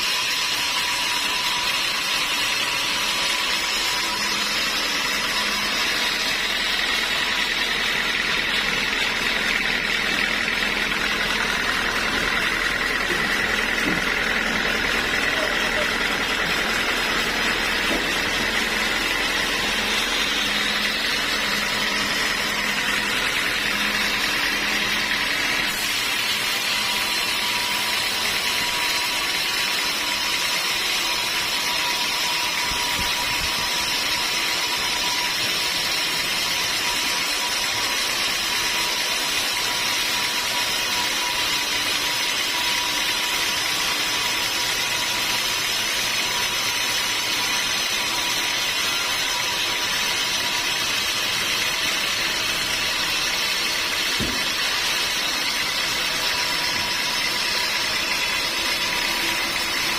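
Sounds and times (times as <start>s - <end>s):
sawmill machinery whine: 0.0s - 59.9s.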